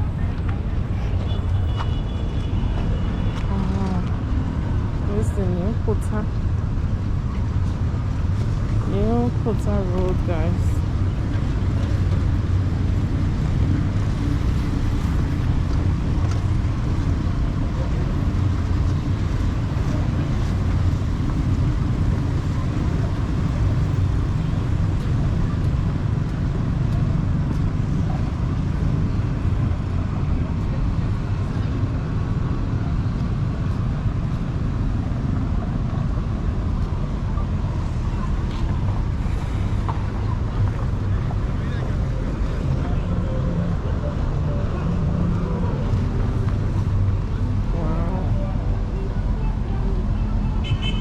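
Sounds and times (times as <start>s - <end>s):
road traffic: 0.0s - 51.0s
wind rumbling on microphone: 0.0s - 51.0s.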